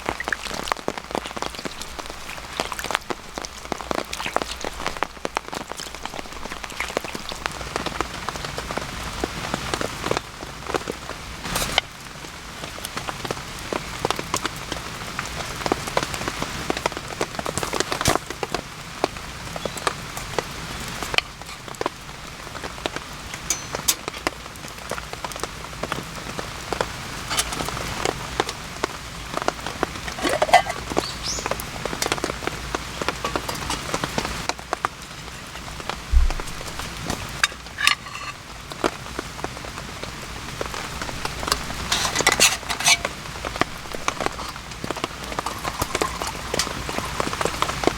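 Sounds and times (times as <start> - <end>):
rain drops pattering and dripping: 0.0 - 47.9.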